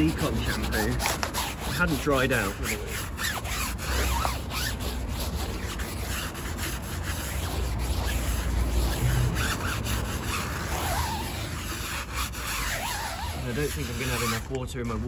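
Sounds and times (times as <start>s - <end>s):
brush scrubbing a tyre: 0.0s - 15.0s.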